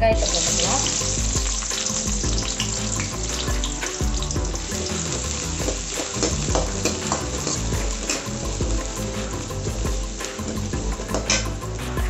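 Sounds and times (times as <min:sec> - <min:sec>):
onions sizzling in oil: 0:00.0 - 0:11.8
background music: 0:00.0 - 0:12.0.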